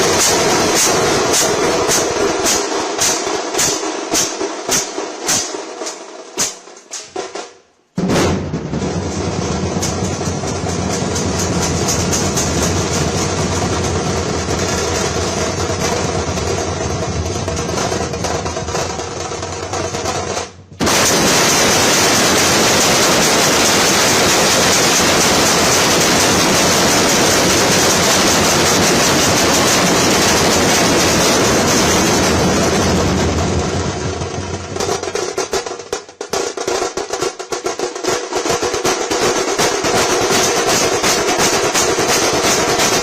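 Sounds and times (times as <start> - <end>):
dhol drums rolling: 0.0 - 43.0.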